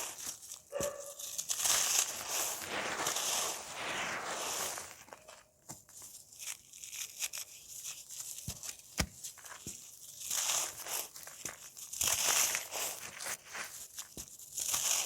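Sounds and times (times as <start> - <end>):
dry cake crunching and crackling: 0.0 - 3.6, 4.5 - 15.0.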